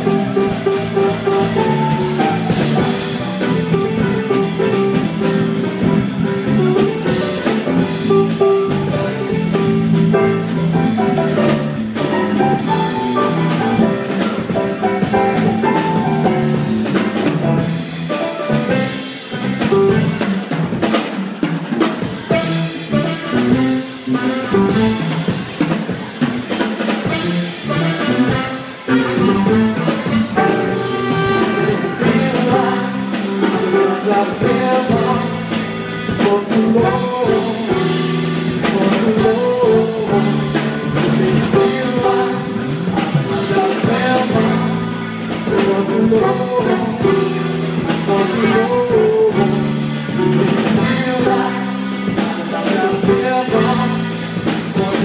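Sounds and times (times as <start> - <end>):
swing band playing: 0.0 - 55.0.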